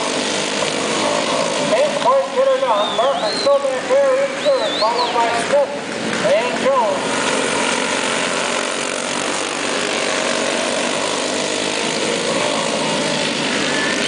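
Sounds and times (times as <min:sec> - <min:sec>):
go-kart engines racing: 0:00.0 - 0:14.0.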